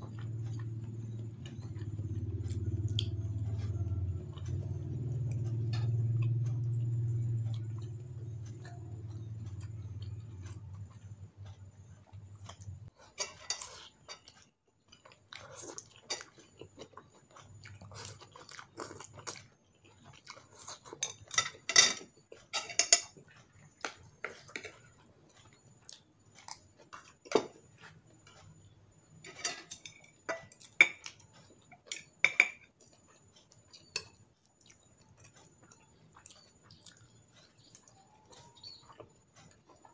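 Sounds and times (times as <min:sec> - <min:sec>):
chewing and slurping: 0:00.0 - 0:39.9
low steady hum: 0:00.0 - 0:39.9.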